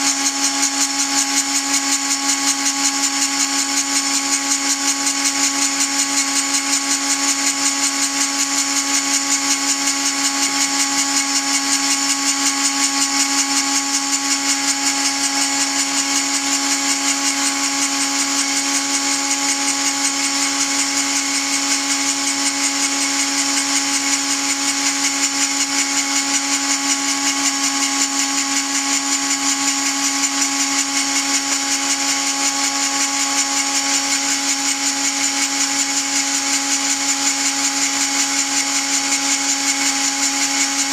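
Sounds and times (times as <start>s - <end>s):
rotary tool grinding whine: 0.0s - 40.9s.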